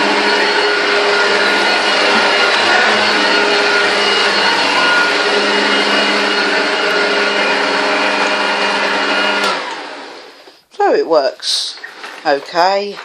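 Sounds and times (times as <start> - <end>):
vacuum cleaner running: 0.0 - 10.5.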